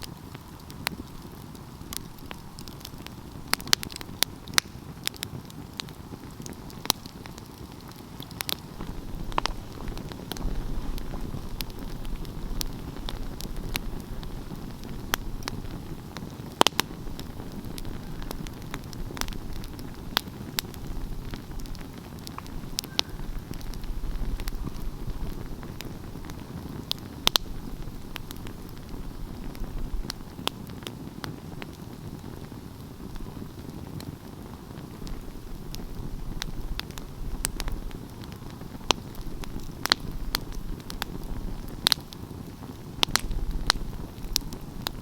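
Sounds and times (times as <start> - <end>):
flames rushing: 0.0 - 45.0
wood fire popping: 0.0 - 45.0.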